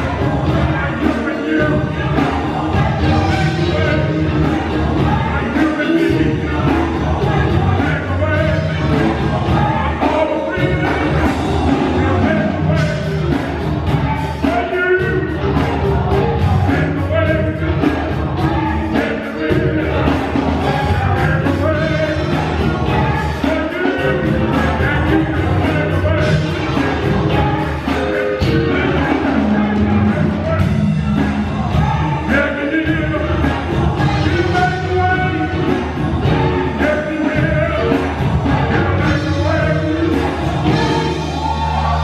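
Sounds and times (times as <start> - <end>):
bass line: 0.0 - 42.0
choir singing: 0.0 - 42.0
drum kit beat: 0.0 - 42.0.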